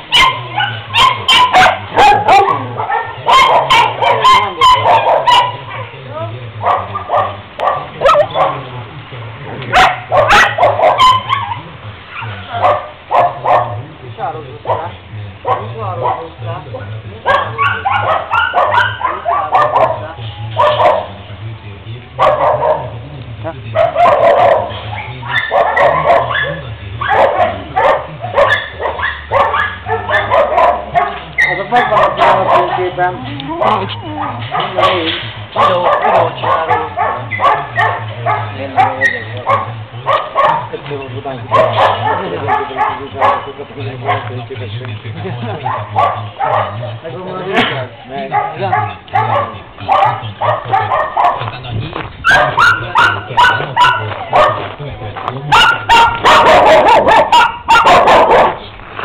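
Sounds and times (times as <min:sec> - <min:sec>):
dogs barking: 0:00.0 - 0:21.3, 0:22.1 - 0:58.7.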